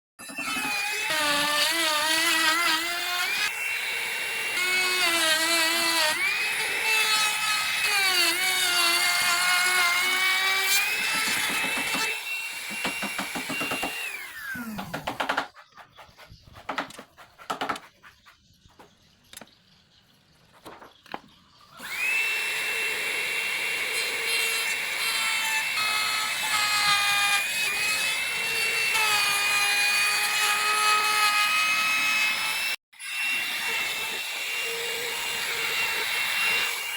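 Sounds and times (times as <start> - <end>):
electric router whining: 0.2 - 15.3, 21.8 - 36.9.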